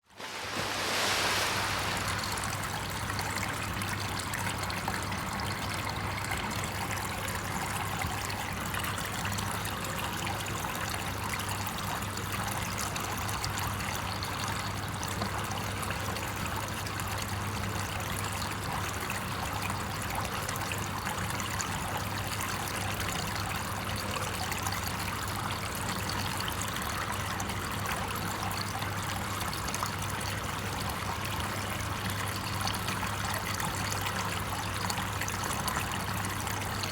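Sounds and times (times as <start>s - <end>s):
trickling running water: 0.0s - 21.4s, 22.0s - 36.9s.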